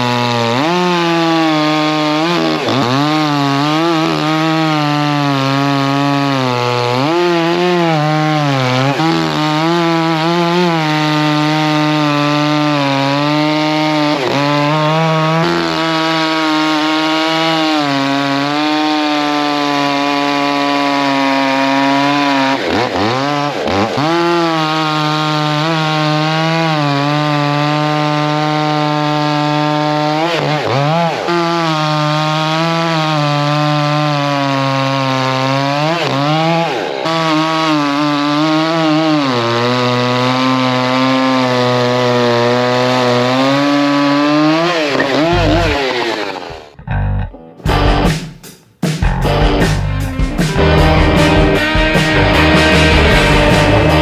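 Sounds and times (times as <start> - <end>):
chainsaw running at high revs: 0.0 - 47.1, 49.3 - 54.0.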